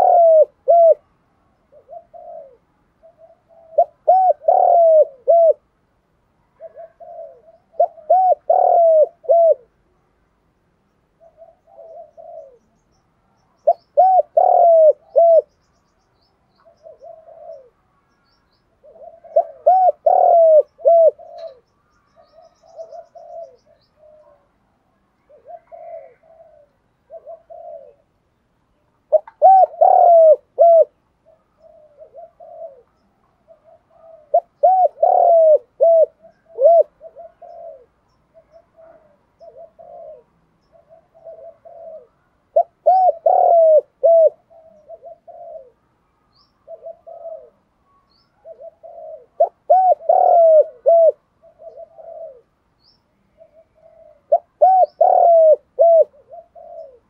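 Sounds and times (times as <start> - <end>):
dove cooing: 0.0 - 5.7, 6.4 - 9.8, 11.1 - 12.8, 13.6 - 15.6, 16.6 - 17.9, 18.7 - 28.3, 28.9 - 57.0.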